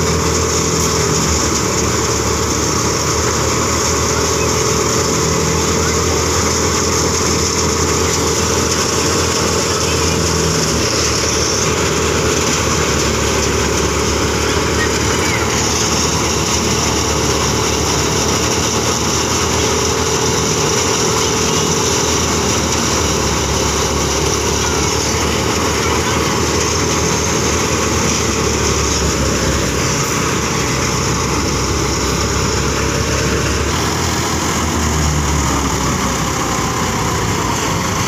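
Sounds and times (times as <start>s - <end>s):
diesel tractor engine: 0.0s - 38.0s
thresher machine din: 0.0s - 38.0s.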